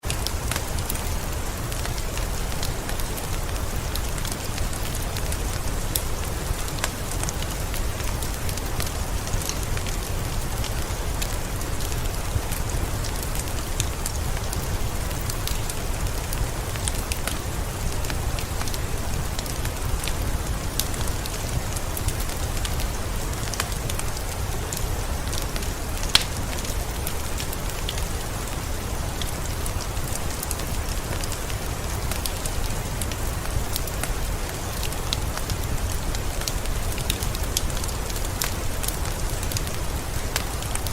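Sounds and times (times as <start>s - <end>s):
close raindrops ticking: 0.0s - 40.9s
heavy rain in a forest: 0.0s - 40.9s.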